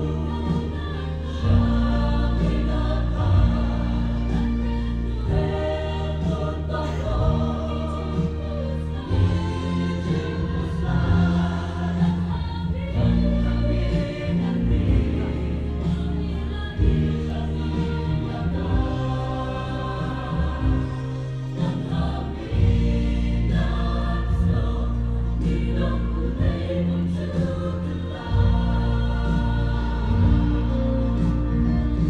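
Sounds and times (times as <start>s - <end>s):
choir singing: 0.0s - 32.0s
sustained bass notes: 0.0s - 32.0s.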